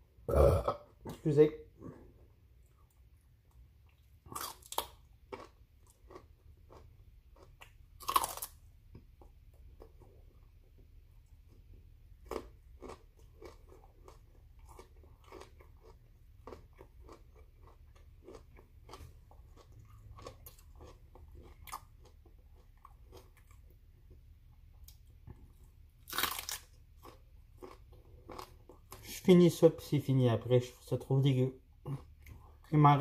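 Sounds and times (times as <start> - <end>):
man chewing broccoli: 1.8 - 29.2.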